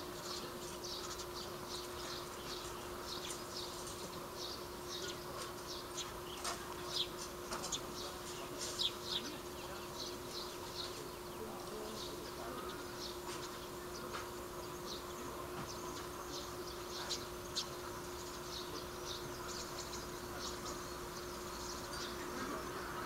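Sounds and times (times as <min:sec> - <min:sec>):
faint steady hum: 0:00.0 - 0:23.0
small birds chirping: 0:00.0 - 0:23.0.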